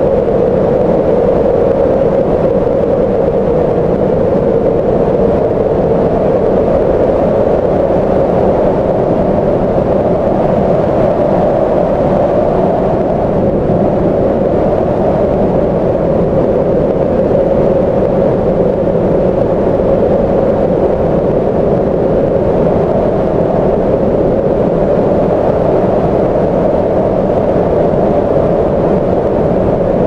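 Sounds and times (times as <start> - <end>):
tornado winds blowing: 0.0 - 30.0.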